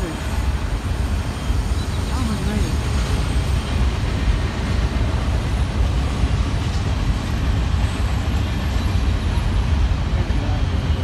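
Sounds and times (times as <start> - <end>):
freight train cars rolling: 0.0 - 11.0.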